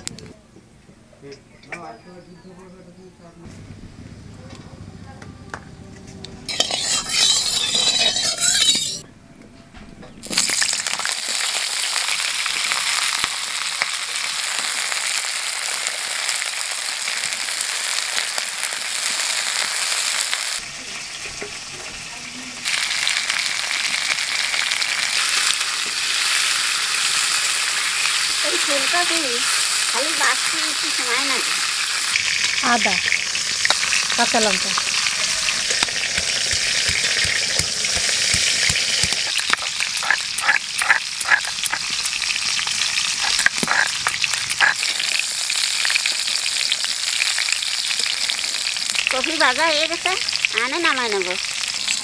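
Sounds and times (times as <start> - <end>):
vegetables sizzling in oil: 6.5 - 9.0, 10.2 - 52.0.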